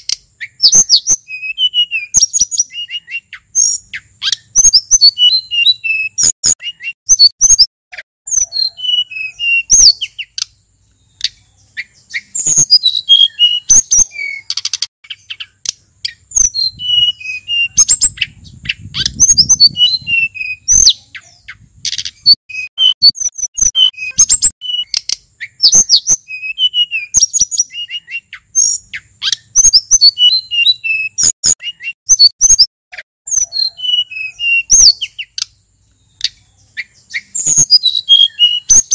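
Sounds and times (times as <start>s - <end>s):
songbird singing whistled trills: 0.0s - 7.7s, 8.3s - 32.7s, 33.3s - 38.9s.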